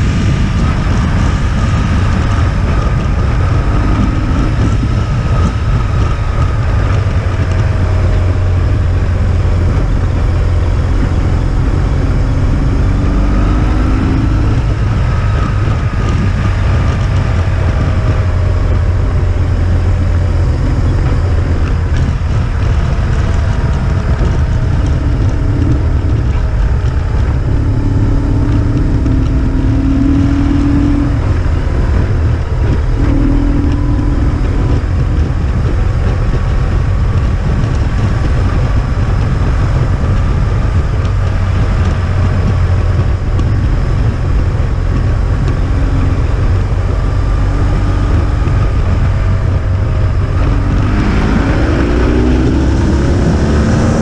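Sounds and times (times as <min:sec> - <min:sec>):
vehicle engine running: 0:00.0 - 0:54.0
wind and road noise rumble: 0:00.0 - 0:54.0.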